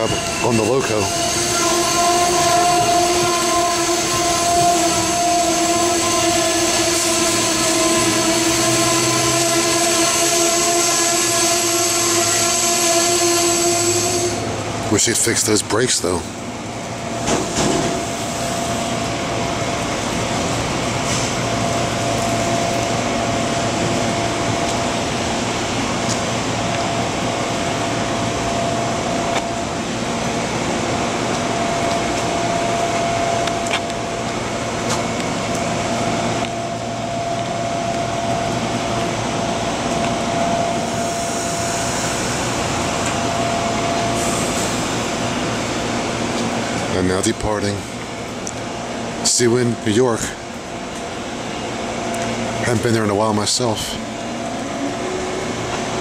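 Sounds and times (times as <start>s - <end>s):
air conditioning whine: 0.0s - 56.0s
train blowers hissing and humming: 0.0s - 56.0s.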